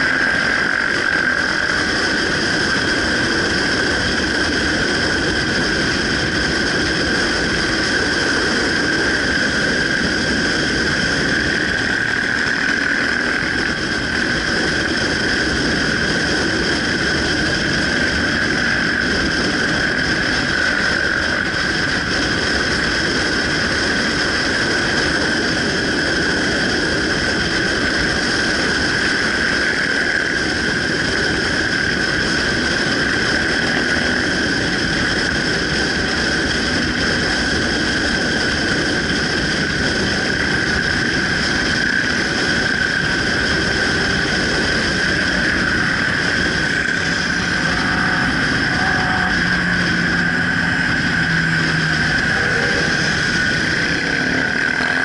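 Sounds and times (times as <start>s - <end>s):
constant high whine: 0.0s - 55.0s
motorcycle engine running: 0.0s - 55.0s
wind rushing over microphone: 0.0s - 55.0s.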